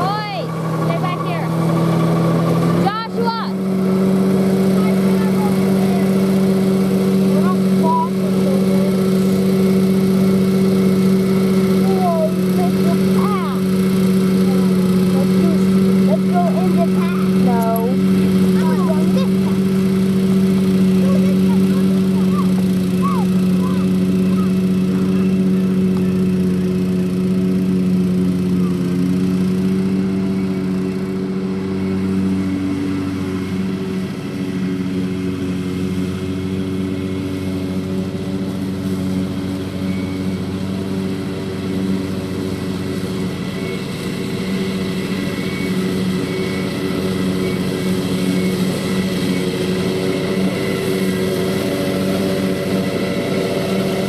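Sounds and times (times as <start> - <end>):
walk-behind tractor engine running: 0.0 - 54.0.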